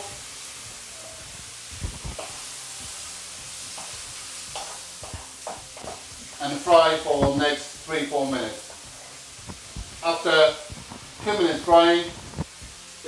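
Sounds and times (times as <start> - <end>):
chicken and onion sizzling in a pan: 0.0 - 13.0
wooden spoon scraping a pan: 0.9 - 12.6.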